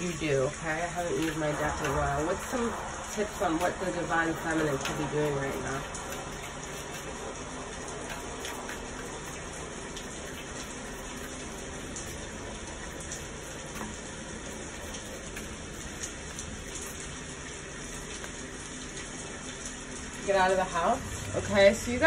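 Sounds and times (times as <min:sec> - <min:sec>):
rain drops ticking: 0:00.0 - 0:22.0
steady rainfall hiss: 0:00.0 - 0:22.0.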